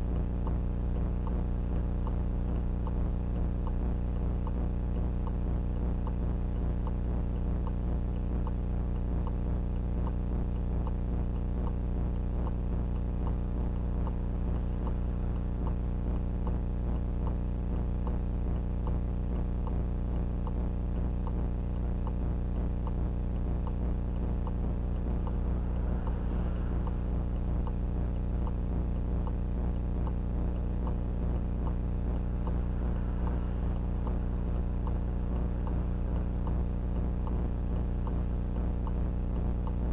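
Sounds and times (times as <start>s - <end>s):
electrical hum: 0.0s - 39.9s
regular even ticking: 0.0s - 39.9s.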